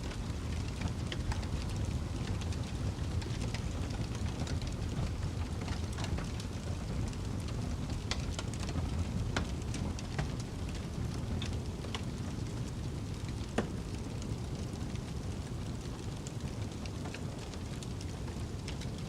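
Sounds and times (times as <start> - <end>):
low rumble of wind: 0.0 - 19.0
wood fire crackling and popping: 0.0 - 19.0.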